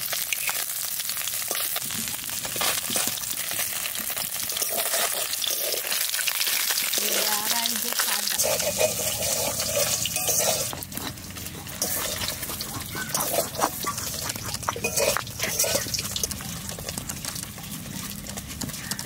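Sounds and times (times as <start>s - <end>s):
rice grains crunching: 1.4s - 19.0s.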